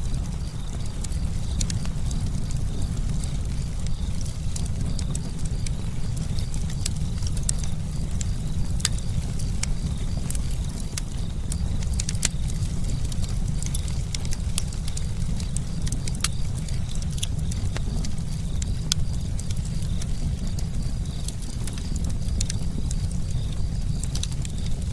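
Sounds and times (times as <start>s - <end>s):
burning wood crackling and popping: 0.0s - 24.9s
campfire flames rumbling: 0.0s - 24.9s.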